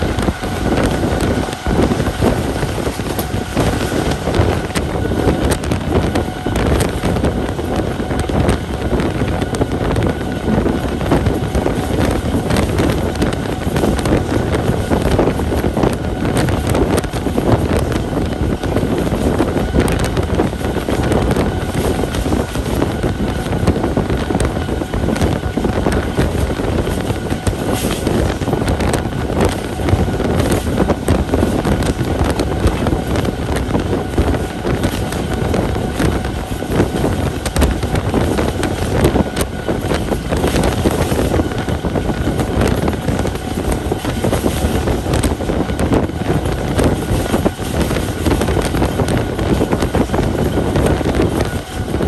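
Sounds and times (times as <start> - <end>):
train wheels rumbling on rails: 0.0 - 52.0
wind buffeting microphone: 0.0 - 52.0.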